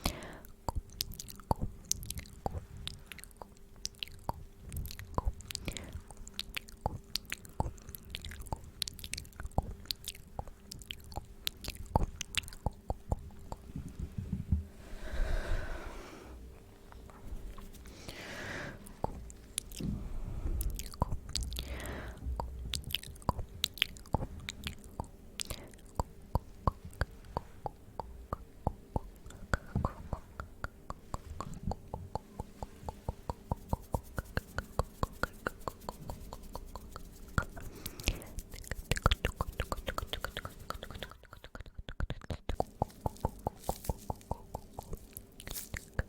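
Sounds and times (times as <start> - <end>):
wet mouth clicks and smacks: 0.0 - 13.7, 18.8 - 19.9, 20.6 - 46.0.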